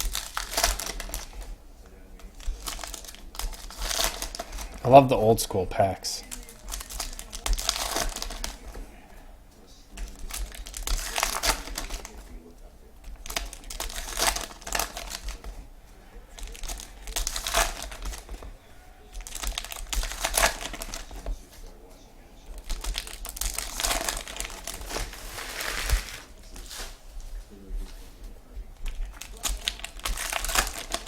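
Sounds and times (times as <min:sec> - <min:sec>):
card pack wrappers crinkling and tearing: 0:00.0 - 0:31.0.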